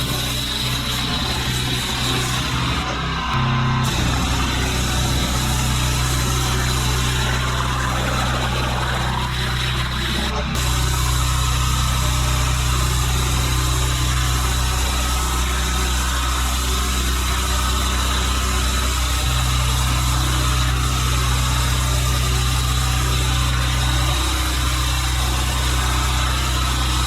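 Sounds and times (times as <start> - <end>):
pressure washer engine running: 0.0 - 27.0
water jet hissing: 0.0 - 27.0.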